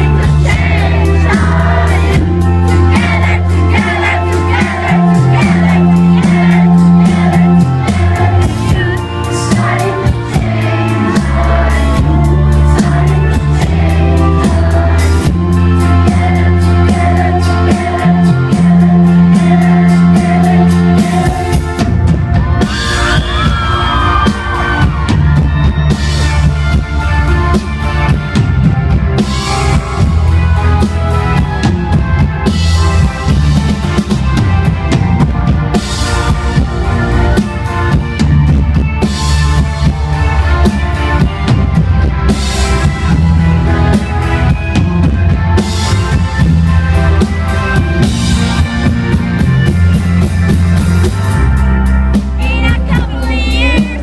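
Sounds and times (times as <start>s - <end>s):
drum kit and cymbals: 0.0s - 54.0s
rock band playing live: 0.0s - 54.0s
sustained bass notes: 0.0s - 54.0s.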